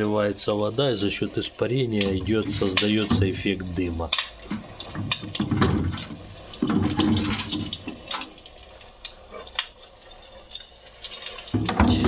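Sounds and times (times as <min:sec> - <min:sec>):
water splashing in a tank: 0:00.0 - 0:12.0.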